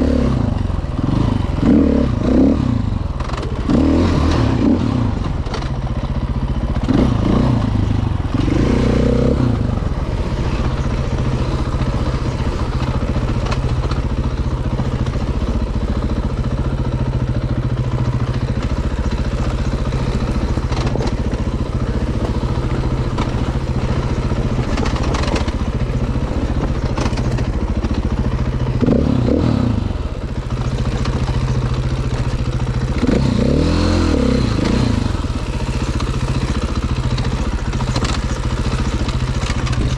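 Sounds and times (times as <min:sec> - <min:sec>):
dirt bike engine revving: 0:00.0 - 0:05.8, 0:06.6 - 0:39.9.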